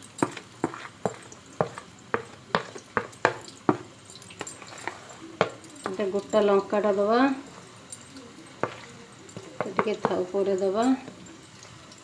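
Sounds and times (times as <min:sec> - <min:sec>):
spoon clinking against bowl: 0:00.0 - 0:12.0.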